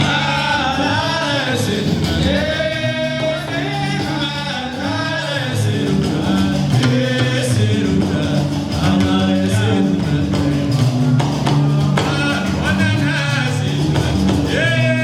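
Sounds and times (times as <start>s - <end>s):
low stepping bass line: 0.0s - 15.0s
person singing: 0.0s - 15.0s.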